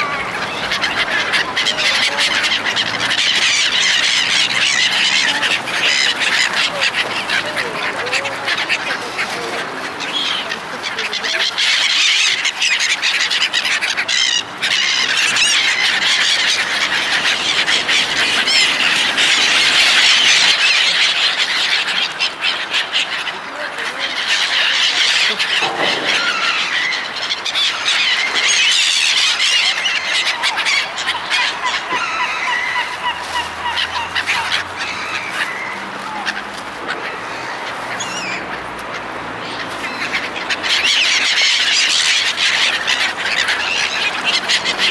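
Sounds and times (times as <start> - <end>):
seagulls calling and squawking: 0.0 - 44.9.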